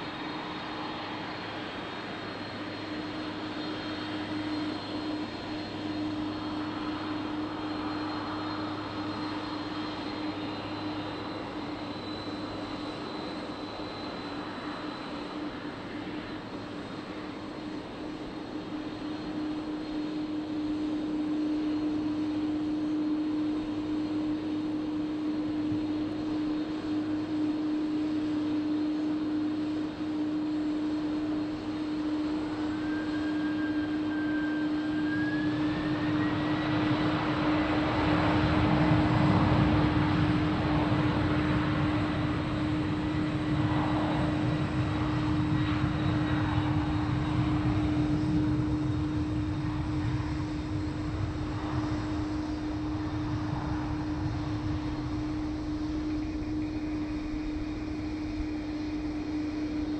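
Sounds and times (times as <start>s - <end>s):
jet engines humming: 0.0s - 59.9s
rising engine whine: 0.0s - 59.9s.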